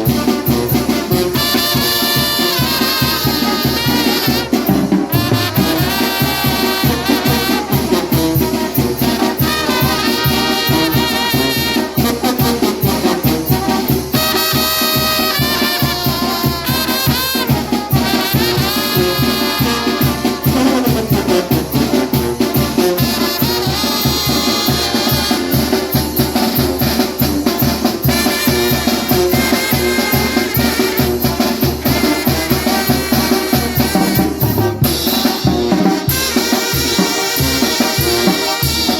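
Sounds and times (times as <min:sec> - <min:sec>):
latin percussion beat: 0:00.0 - 0:38.9
lead trumpet: 0:00.0 - 0:38.9
salsa music: 0:00.0 - 0:38.9.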